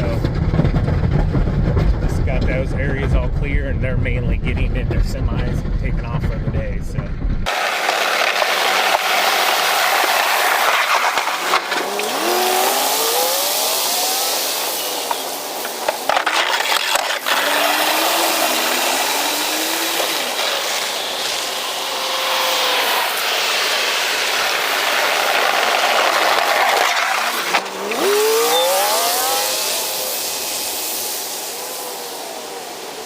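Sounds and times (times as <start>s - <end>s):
road and tyre noise: 0.0s - 33.0s
truck engine accelerating: 0.0s - 33.0s.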